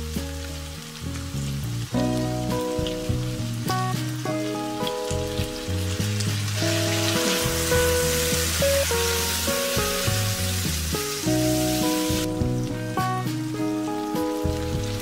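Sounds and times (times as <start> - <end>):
background music: 0.0 - 15.0
meat and vegetables sizzling in pan: 0.0 - 15.0.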